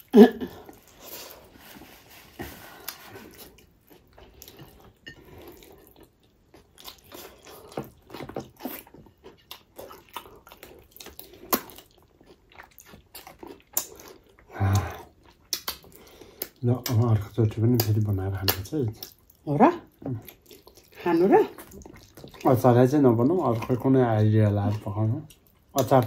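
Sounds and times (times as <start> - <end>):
wet chewing: 2.4 - 26.0.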